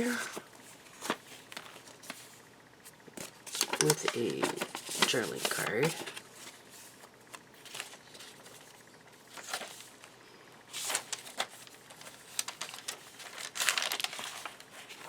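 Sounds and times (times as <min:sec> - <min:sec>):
paper rustling: 0:00.0 - 0:10.1, 0:10.7 - 0:15.0.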